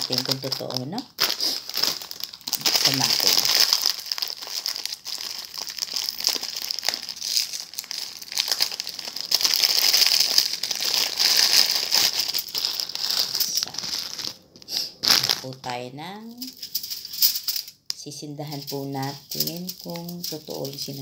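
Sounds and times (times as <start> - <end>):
plastic wrapper crinkling: 0.0 - 17.9, 18.5 - 21.0
dry noodles crackling: 0.0 - 21.0.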